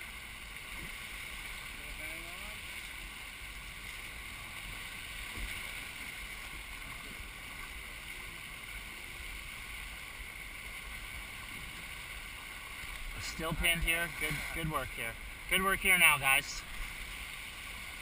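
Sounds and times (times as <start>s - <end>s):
water rushing along hull: 0.0s - 18.0s.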